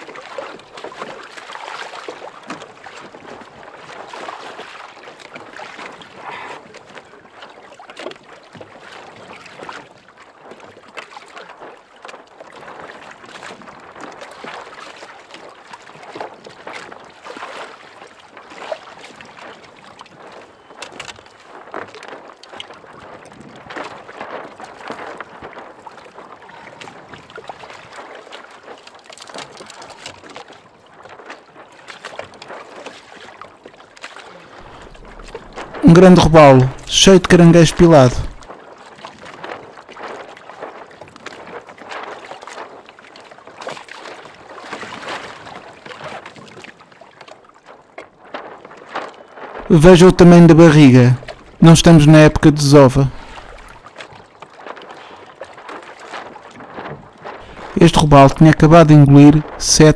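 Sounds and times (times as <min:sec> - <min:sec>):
water slapping kayak hull: 0:00.0 - 0:59.9.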